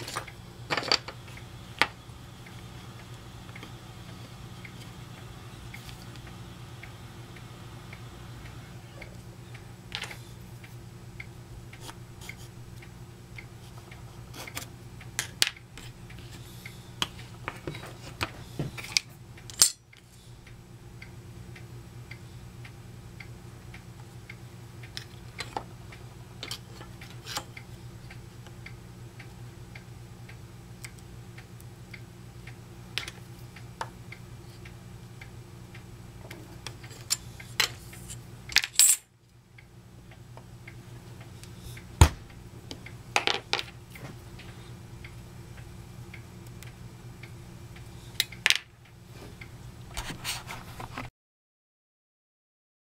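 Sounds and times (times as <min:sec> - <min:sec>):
steady low hum: 0:00.0 - 0:51.1.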